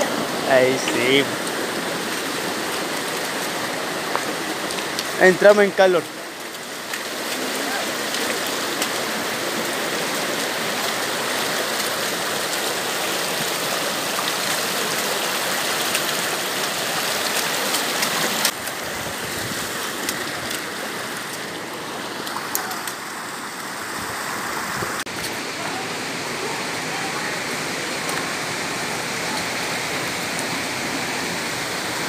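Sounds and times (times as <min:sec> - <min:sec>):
mountain stream rushing: 0:00.0 - 0:32.0.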